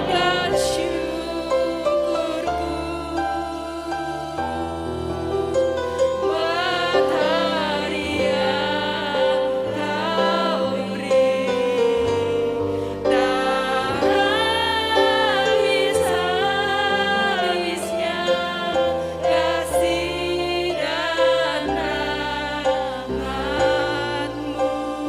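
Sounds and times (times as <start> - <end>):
instrumental accompaniment: 0.0 - 25.0
worship song singing: 0.0 - 25.0.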